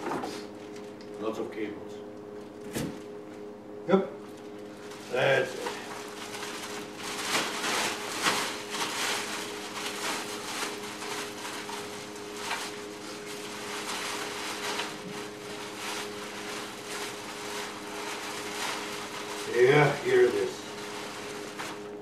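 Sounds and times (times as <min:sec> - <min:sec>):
steady low hum: 0:00.0 - 0:22.0
packaging rustling and crinkling: 0:04.4 - 0:22.0.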